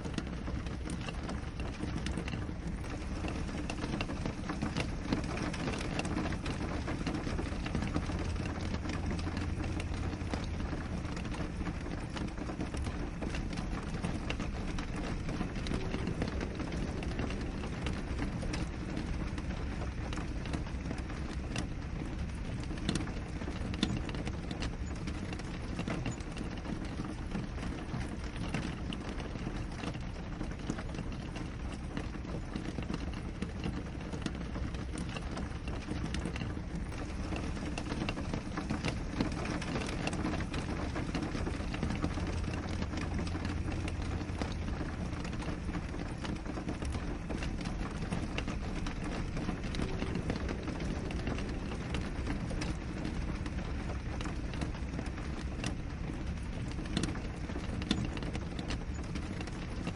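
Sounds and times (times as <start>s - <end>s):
rain on a window: 0.0s - 59.9s
raindrop hits: 0.0s - 59.9s.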